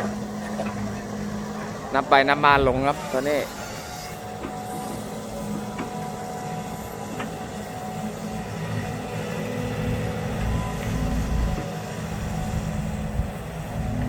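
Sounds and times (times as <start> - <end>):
excavator diesel engine under load: 0.0 - 14.0.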